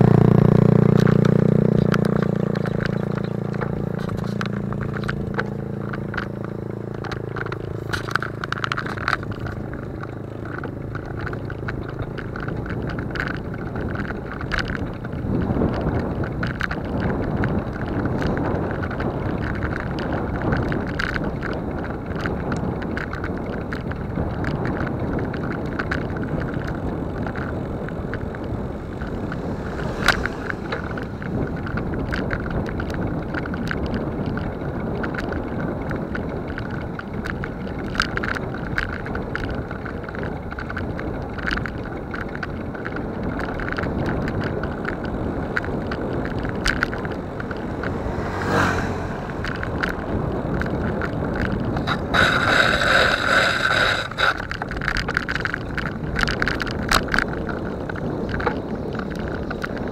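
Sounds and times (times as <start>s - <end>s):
wind rushing over microphone: 0.0s - 59.9s
clicks and knocks from bumps: 0.8s - 59.9s.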